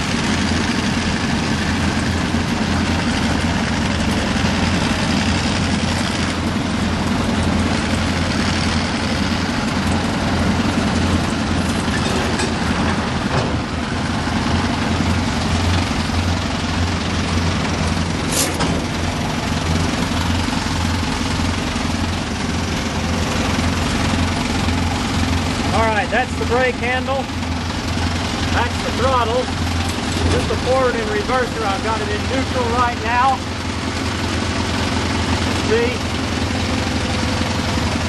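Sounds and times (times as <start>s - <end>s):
locomotive engine humming: 0.0s - 38.0s.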